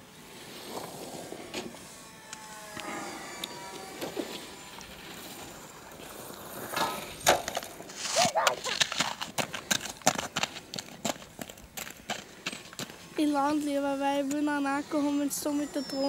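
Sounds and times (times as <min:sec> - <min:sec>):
faint electric motor and propeller whine: 0:00.0 - 0:16.0.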